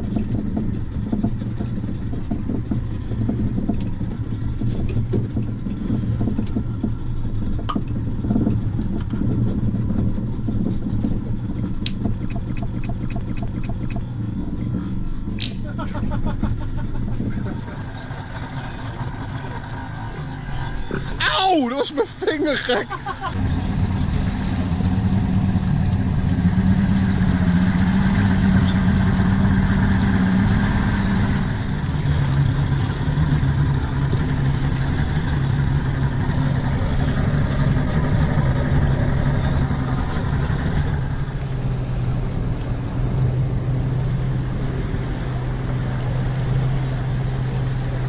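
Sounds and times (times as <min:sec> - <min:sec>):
engine humming: 0:00.0 - 0:48.0.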